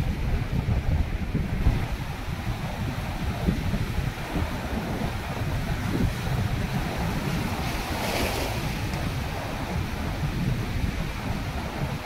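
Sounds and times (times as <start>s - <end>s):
water rushing between rocks: 0.0s - 12.0s
waves breaking against rocks: 0.0s - 12.0s
wind buffeting microphone: 0.0s - 12.0s.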